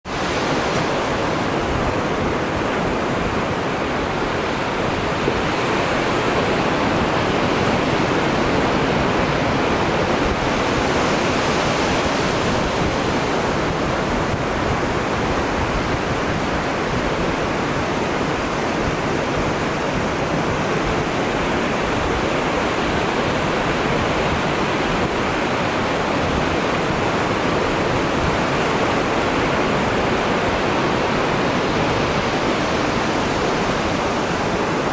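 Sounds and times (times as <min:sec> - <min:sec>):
ocean waves breaking on beach: 0:00.0 - 0:34.9.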